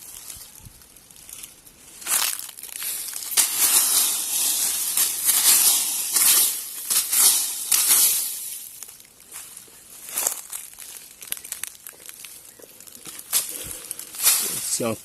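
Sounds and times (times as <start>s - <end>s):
leaf litter crunching and rustling: 0.0s - 15.0s.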